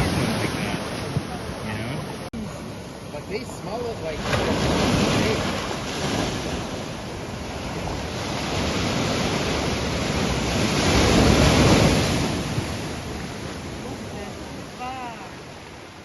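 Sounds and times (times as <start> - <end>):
ocean surf breaking on shore: 0.0 - 16.0
wind buffeting microphone: 0.0 - 16.0.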